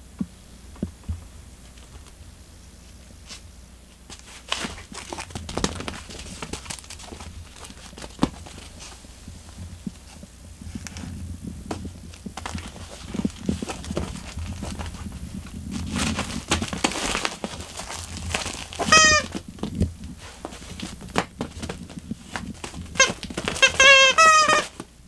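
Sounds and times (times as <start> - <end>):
cat scratching and biting toy: 4.1 - 25.0.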